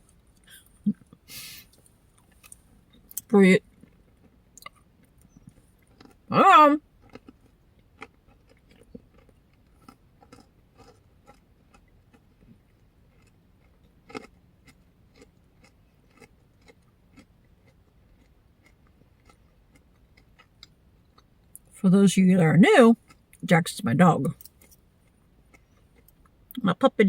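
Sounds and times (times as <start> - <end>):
chewing crunchy food: 0.1 - 21.8, 23.0 - 23.4, 24.3 - 26.6.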